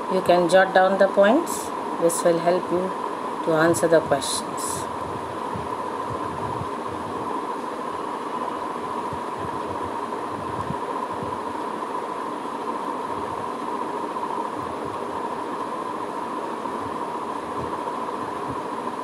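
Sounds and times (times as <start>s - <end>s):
constant mid-pitched hum: 0.0s - 19.0s.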